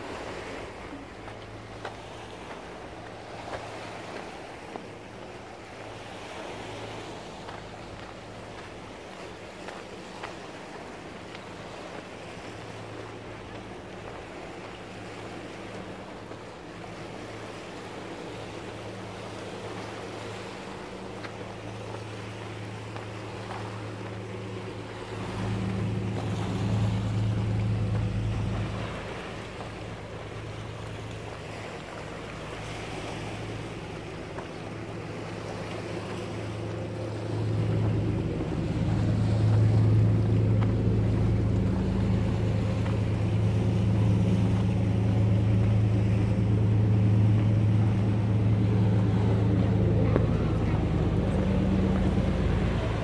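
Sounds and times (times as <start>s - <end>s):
boat engine hum: 0.0s - 53.0s
wind and waves hiss: 0.0s - 53.0s.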